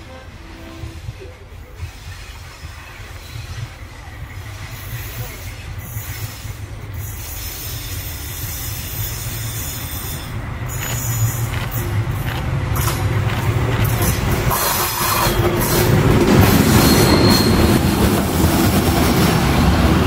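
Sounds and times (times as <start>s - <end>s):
diesel locomotive engine rumble: 0.0s - 20.0s
train wheels rolling on rail: 0.0s - 20.0s.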